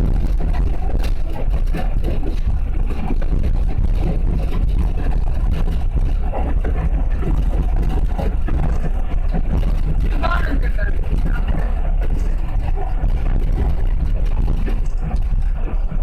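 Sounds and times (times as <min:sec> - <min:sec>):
knocks and rattles: 0:00.0 - 0:16.0
train rumbling: 0:00.0 - 0:16.0.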